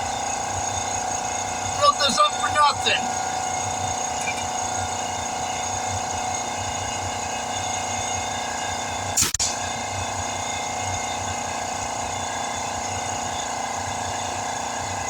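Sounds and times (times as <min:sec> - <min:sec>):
air compressor droning: 0:00.0 - 0:14.8.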